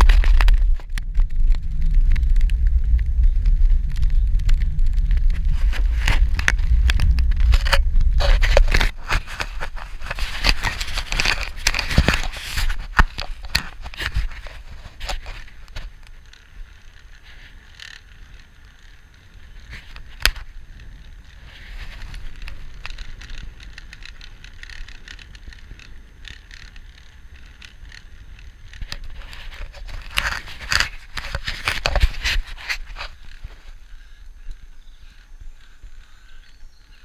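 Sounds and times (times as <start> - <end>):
bike clicks and rattles: 0.0 - 37.0
bike rolling on tarmac: 0.0 - 37.0.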